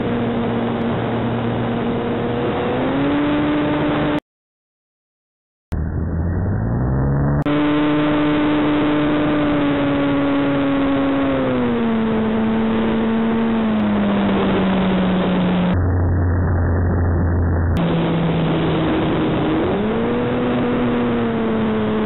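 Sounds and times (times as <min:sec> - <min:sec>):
wind rushing over microphone: 0:00.0 - 0:04.2, 0:07.4 - 0:22.0.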